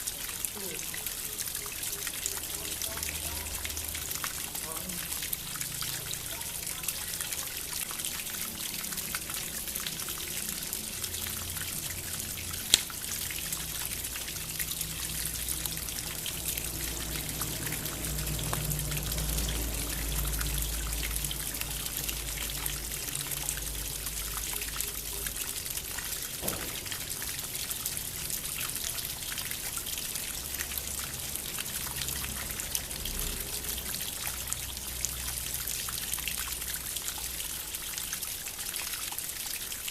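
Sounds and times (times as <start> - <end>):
water fountain trickling: 0.0 - 39.9.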